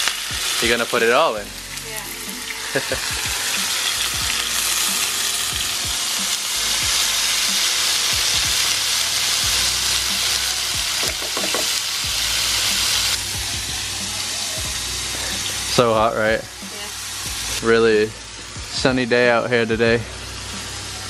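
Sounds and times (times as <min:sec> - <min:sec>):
tofu sizzling in oil: 0:00.0 - 0:18.6, 0:20.1 - 0:21.0.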